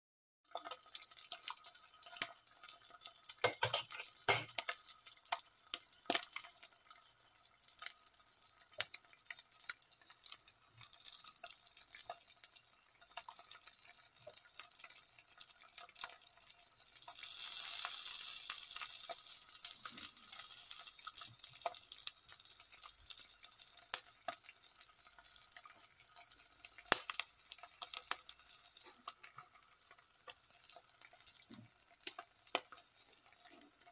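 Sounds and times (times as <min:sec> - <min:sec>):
eggs sizzling in hot oil: 0:00.4 - 0:33.9
oil crackling and popping: 0:00.5 - 0:33.9.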